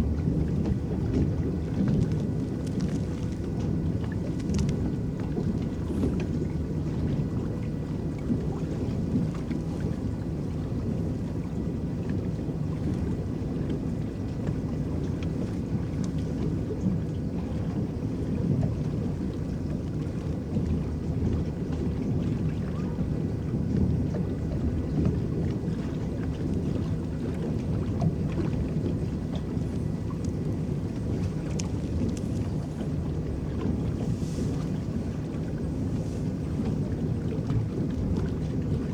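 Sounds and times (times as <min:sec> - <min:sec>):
paddles churning water: 0:00.0 - 0:38.9.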